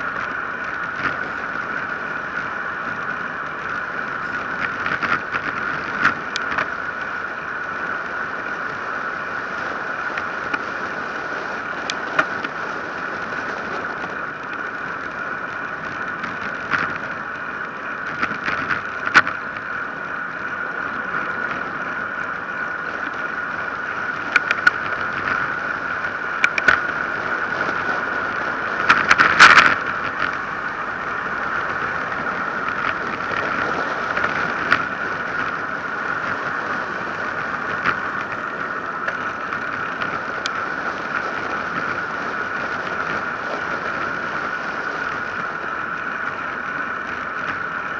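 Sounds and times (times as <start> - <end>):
high steady hum: 0.0 - 47.9
wind and tyre noise: 0.0 - 47.9.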